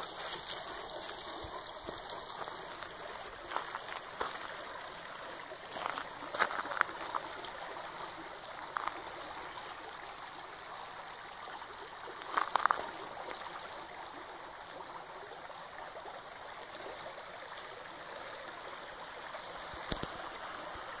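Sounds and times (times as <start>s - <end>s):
creek babbling over pebbles: 0.0s - 21.0s.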